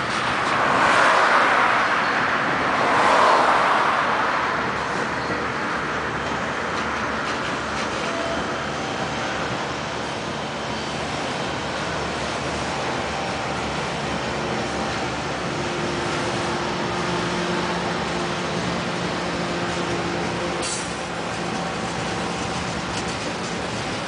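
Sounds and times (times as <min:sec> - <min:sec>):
train wheels on rail: 0:00.0 - 0:24.0.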